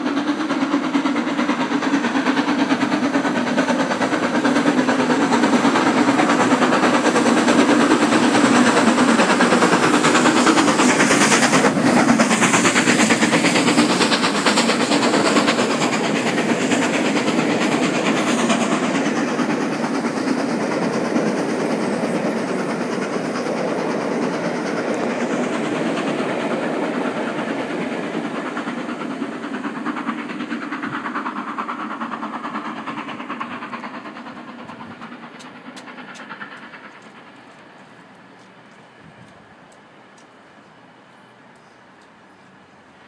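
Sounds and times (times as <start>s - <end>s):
train wheels clattering on track: 0.0s - 43.0s.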